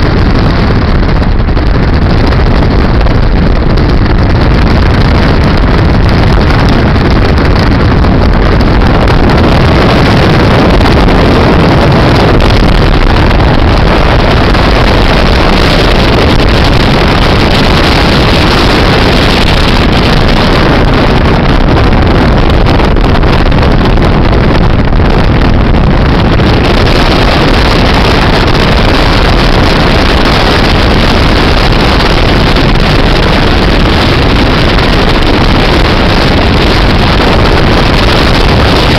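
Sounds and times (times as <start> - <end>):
road and engine noise: 0.0 - 38.9
wind buffeting microphone: 0.0 - 38.9.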